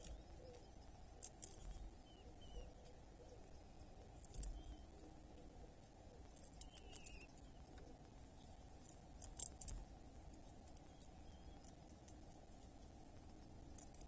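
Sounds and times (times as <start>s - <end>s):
faint bird chirp: 0.0s - 14.0s
soft clicks and scratches: 0.0s - 14.0s.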